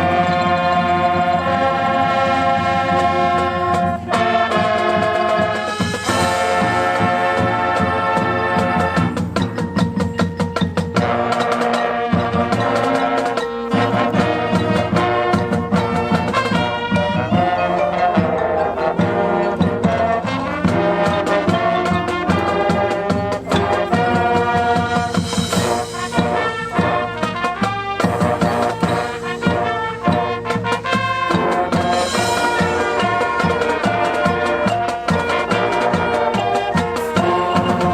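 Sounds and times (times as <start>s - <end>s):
brass playing chords: 0.0s - 9.6s, 11.0s - 37.9s
drum line steady beat: 0.0s - 37.9s.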